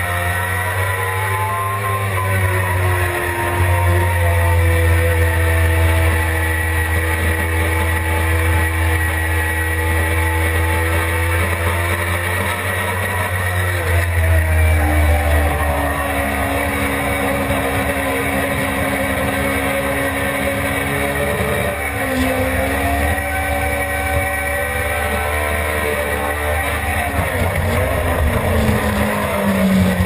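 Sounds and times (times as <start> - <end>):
motorcycle engine running hard: 0.0 - 30.0.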